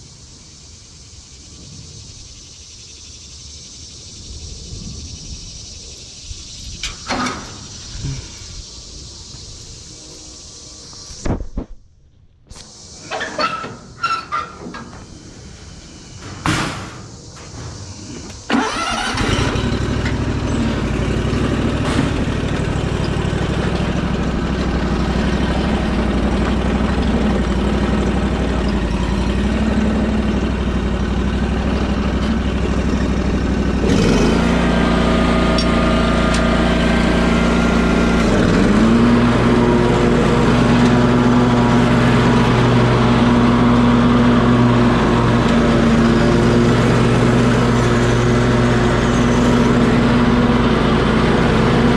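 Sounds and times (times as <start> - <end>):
vehicle engine starting and running: 5.9 - 8.8, 13.0 - 51.9.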